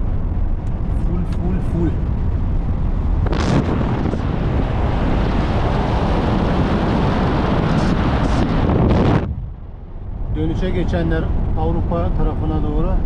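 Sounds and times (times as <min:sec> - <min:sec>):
wind and road noise in a car: 0:00.0 - 0:13.0
wind buffeting microphone: 0:00.0 - 0:13.0.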